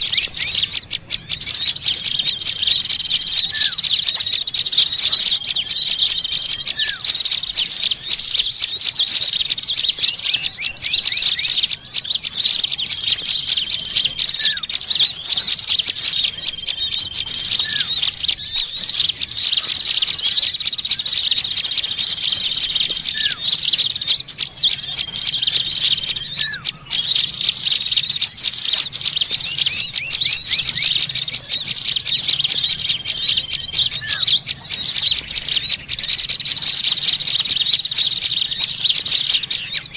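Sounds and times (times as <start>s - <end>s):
flock of small birds chattering: 0.0s - 39.9s.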